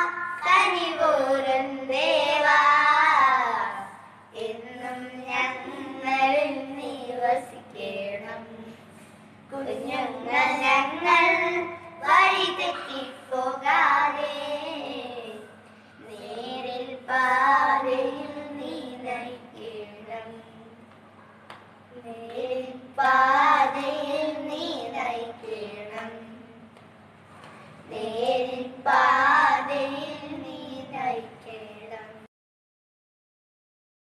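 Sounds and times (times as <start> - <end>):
children singing devotional song: 0.0 - 20.8, 21.9 - 26.6, 27.7 - 32.3.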